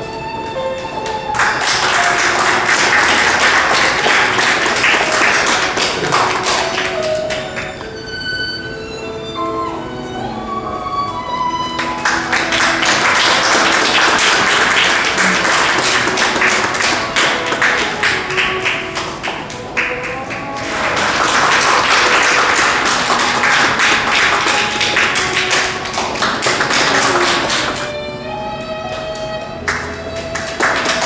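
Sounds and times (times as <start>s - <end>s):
music playing: 0.0s - 31.0s
rhythmic handclapping: 0.7s - 8.2s, 11.7s - 31.0s.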